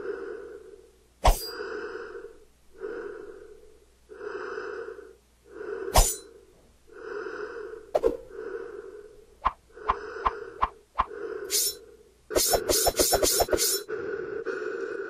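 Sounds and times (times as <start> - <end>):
heavy breathing behind rubber mask: 0.0 - 15.0.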